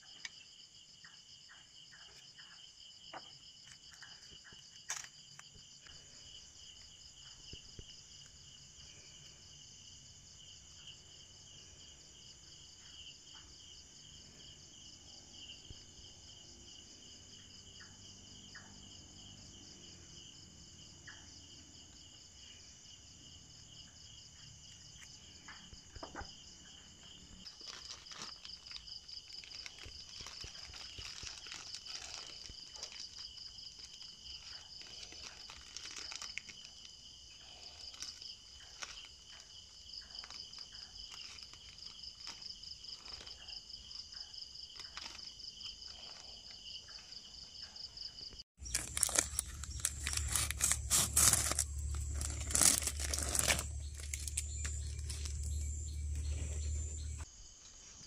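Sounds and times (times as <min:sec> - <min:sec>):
insect chorus trilling: 0:00.0 - 0:58.0.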